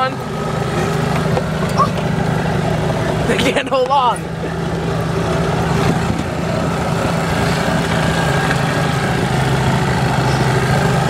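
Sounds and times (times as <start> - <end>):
golf cart motor drone: 0.0 - 11.0
rumble of cart on grass: 0.0 - 11.0.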